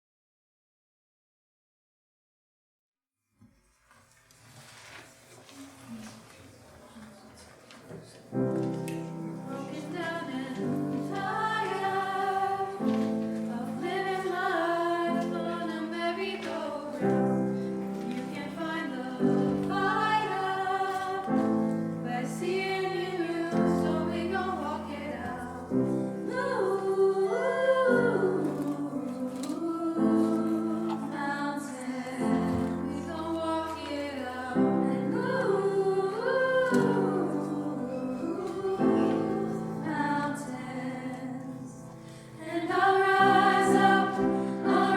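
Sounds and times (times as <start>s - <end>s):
piano chords: 8.3s - 44.9s
women's choir singing: 8.3s - 44.9s.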